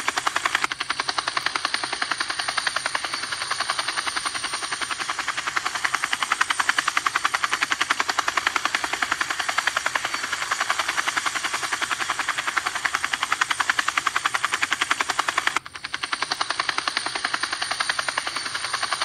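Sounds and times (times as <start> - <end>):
toy helicopter rotors chopping: 0.0 - 19.0.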